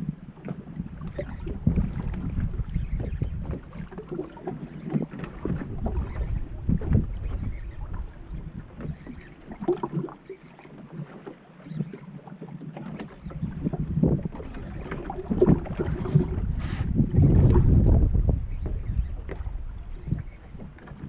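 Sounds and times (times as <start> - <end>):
wind buffeting microphone: 0.0 - 10.2, 13.1 - 21.0
water slapping against boat hull: 0.0 - 21.0.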